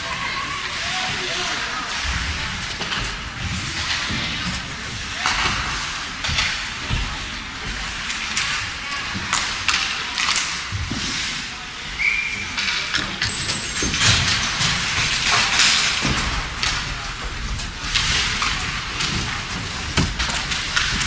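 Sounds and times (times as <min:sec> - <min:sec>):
hockey sticks and puck clacking: 0:00.0 - 0:21.0
skate blades scraping ice: 0:00.1 - 0:21.0.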